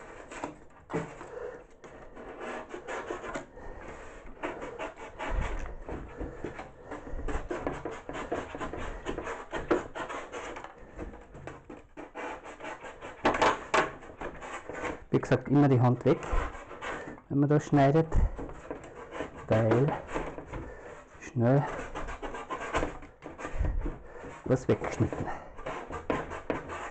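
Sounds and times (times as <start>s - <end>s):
utility knife cutting foam board: 0.0s - 26.9s.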